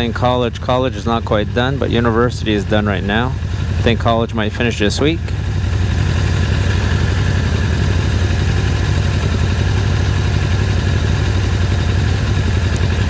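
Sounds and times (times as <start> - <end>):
engine running with low pulse: 0.0 - 13.0.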